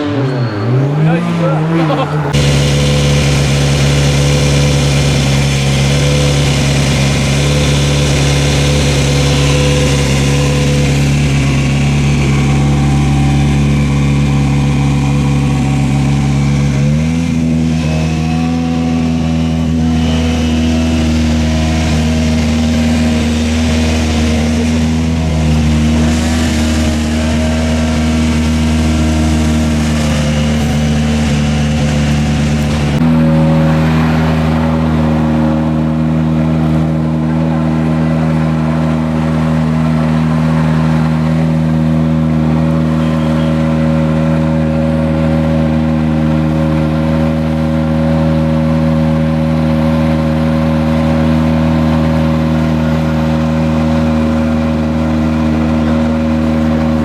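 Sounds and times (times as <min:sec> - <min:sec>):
rally car engine running: 0:00.0 - 0:57.0.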